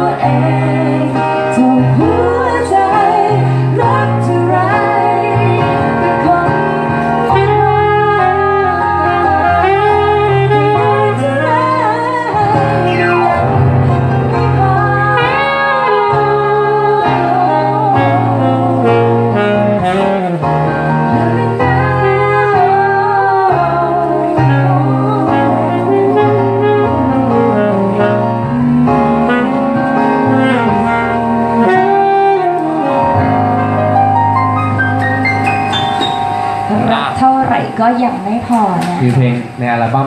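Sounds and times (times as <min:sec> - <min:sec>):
saxophone solo: 0:00.0 - 0:39.7
backing music with bass: 0:00.0 - 0:40.0.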